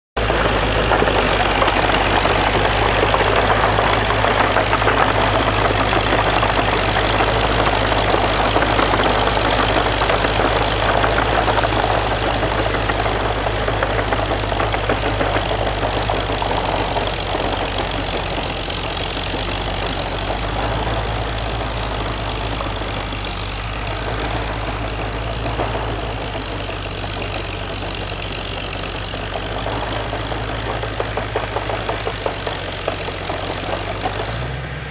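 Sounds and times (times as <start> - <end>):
crawler tractor engine running: 0.2 - 34.9.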